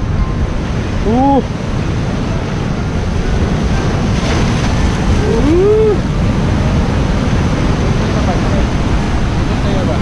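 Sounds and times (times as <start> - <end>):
wind rumbling on microphone: 0.0 - 10.0
surf breaking on rocks: 0.8 - 10.0.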